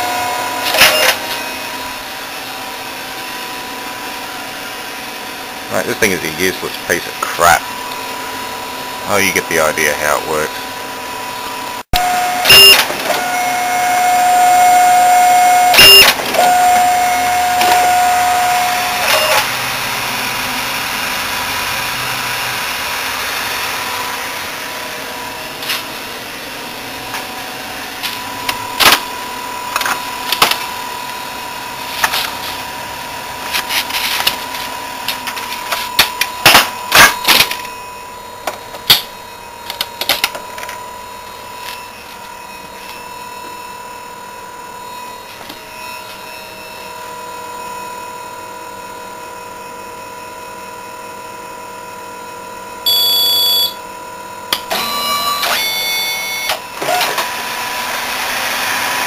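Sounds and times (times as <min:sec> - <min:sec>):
copier motors whirring: 0:00.0 - 0:59.0.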